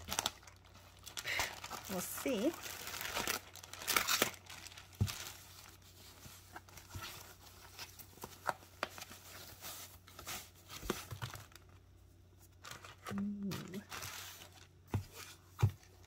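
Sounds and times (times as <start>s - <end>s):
plastic bag crinkling: 0.0s - 11.9s, 12.5s - 14.8s.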